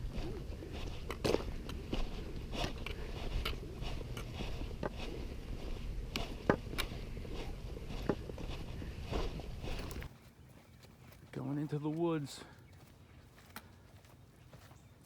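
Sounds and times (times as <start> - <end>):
footsteps crunching on road: 0.0 - 15.0.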